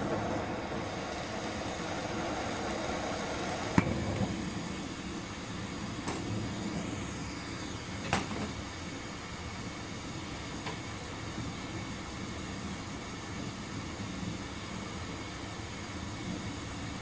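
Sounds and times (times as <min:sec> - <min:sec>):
torch flame hissing: 0:00.0 - 0:17.0.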